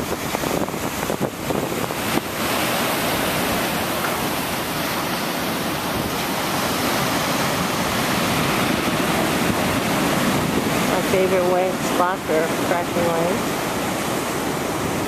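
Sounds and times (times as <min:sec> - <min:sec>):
surf breaking over rocks: 0:00.0 - 0:15.0.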